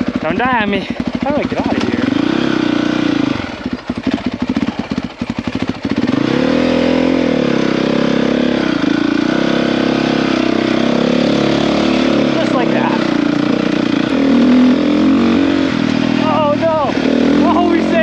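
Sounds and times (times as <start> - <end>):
dirt bike engine chugging and revving: 0.0 - 18.0.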